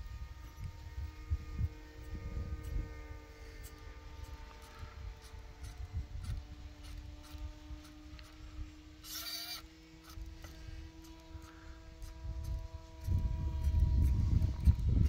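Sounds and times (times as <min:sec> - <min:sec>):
wind rumble on microphone: 0:00.0 - 0:09.0, 0:10.0 - 0:15.0
distant electric motor whine: 0:00.0 - 0:15.0
short buzzing burst: 0:00.0 - 0:15.0.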